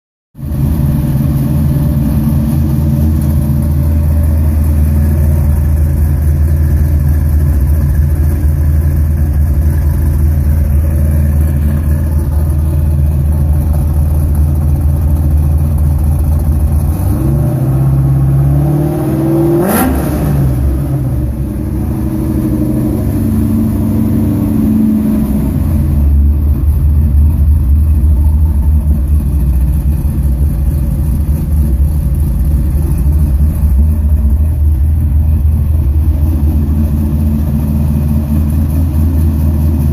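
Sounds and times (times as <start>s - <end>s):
car engine idling and revving: 0.4s - 39.9s.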